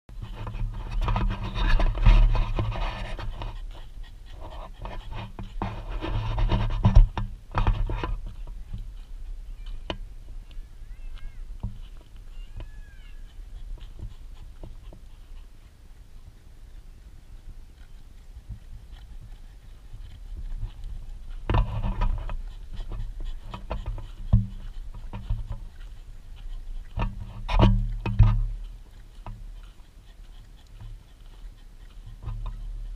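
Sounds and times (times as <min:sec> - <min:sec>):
dog panting hard: 0:00.1 - 0:32.9.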